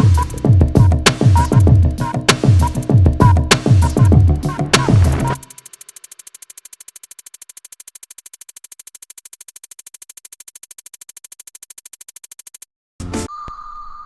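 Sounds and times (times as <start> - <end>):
electronic music rapid pulse: 0.0 - 12.6.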